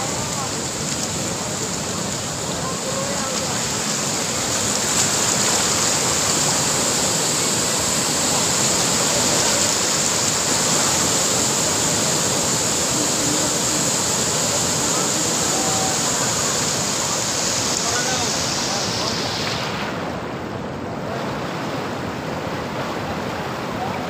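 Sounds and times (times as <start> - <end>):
loud rushing water: 0.0 - 24.0.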